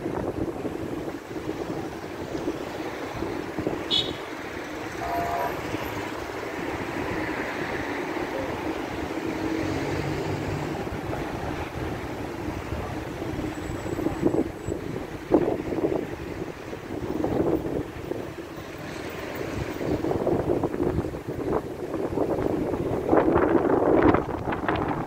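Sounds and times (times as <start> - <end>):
voices of passers-by: 0.0 - 25.0
cars driving past: 0.6 - 25.0.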